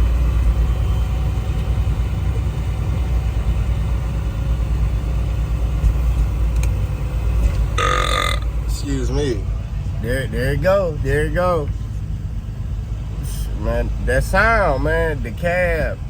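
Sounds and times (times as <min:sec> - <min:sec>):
truck engine low rumble: 0:00.0 - 0:16.0.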